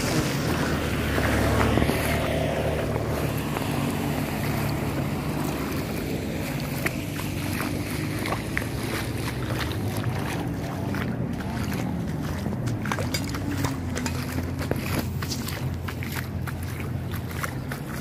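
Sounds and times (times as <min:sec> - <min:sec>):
floodwater rushing and splashing: 0:00.0 - 0:18.0
motor engine running: 0:00.0 - 0:18.0
sharp splashes or knocks: 0:00.0 - 0:18.0.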